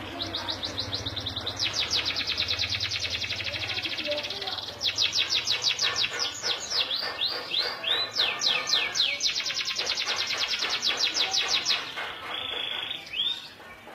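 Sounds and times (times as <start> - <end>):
canary singing: 0.0 - 13.9.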